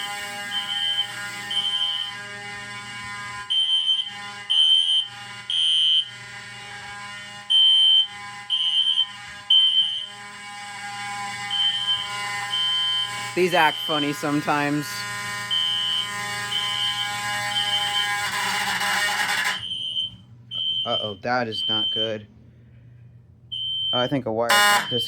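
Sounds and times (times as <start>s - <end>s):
vibrating horn buzzing: 0.0s - 20.8s, 24.5s - 25.0s
horn strobe high beeps: 0.0s - 22.2s, 23.5s - 25.0s.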